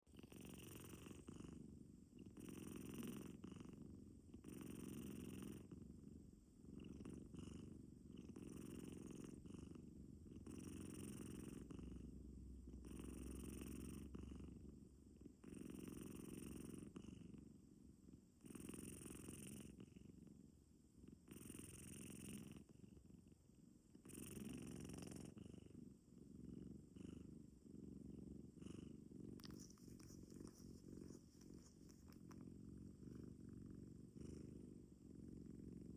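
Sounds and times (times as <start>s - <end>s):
cat purring: 0.0s - 35.9s.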